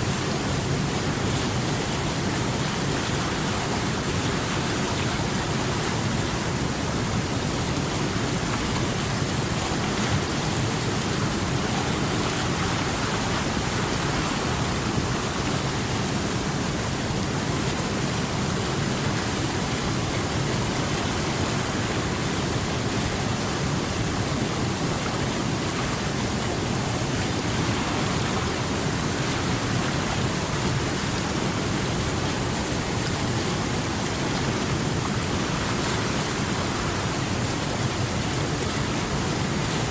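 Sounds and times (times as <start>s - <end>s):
water flowing over rocks: 0.0s - 39.9s.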